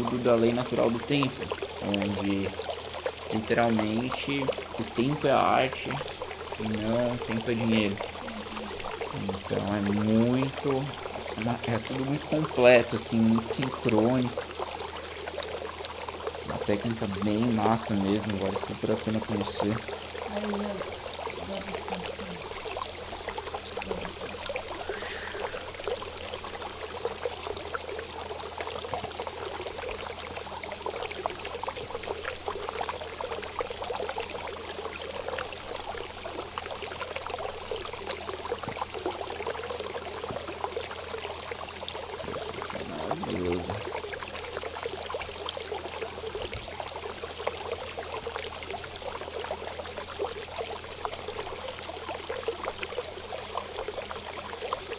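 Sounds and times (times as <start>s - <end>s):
water trickling: 0.0s - 54.9s.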